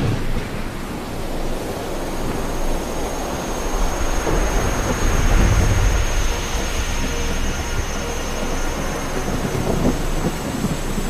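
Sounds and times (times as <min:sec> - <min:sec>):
thunder rumble: 0:00.0 - 0:11.0.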